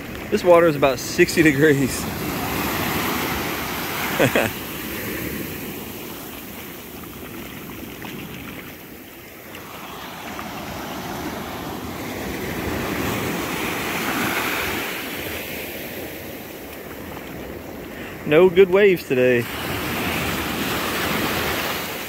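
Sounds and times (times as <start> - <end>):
surf washing up sand: 0.0 - 22.0.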